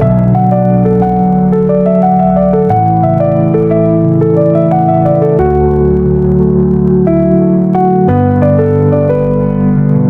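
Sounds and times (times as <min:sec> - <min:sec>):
gentle keyboard melody: 0:00.0 - 0:10.0
held bass notes: 0:00.0 - 0:10.0.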